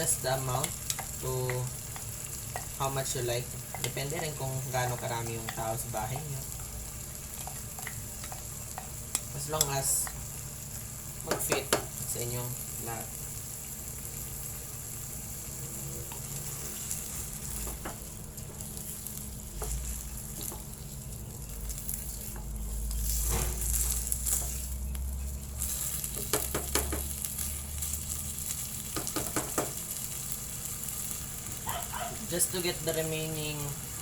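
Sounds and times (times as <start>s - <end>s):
food sizzling in a pot: 0.0s - 34.0s.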